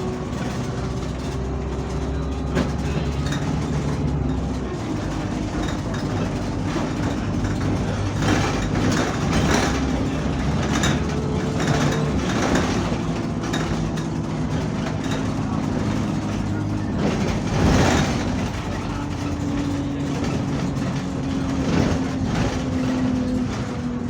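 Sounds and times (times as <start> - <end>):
bus body rattling: 0.0 - 24.0
bus engine humming with whine: 0.0 - 24.0.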